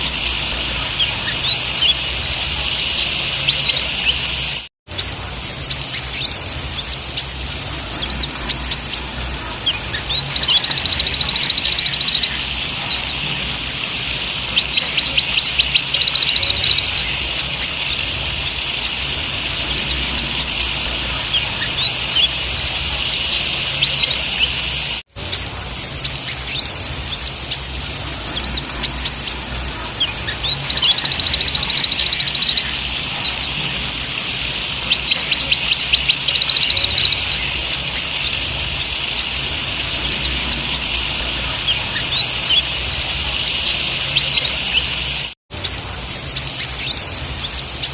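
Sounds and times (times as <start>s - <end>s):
steady hiss: 0.0s - 47.9s
sunbirds chipping and trilling: 0.0s - 47.9s.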